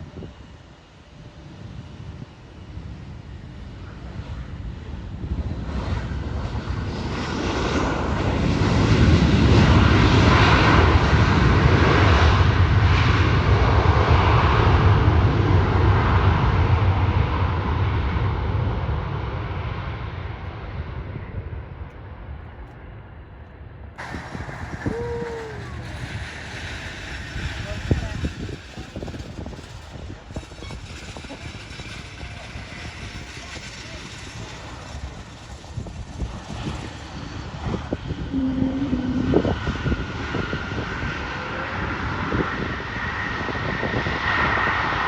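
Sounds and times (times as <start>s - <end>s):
jet airliner engine rumbling: 0.0s - 45.0s.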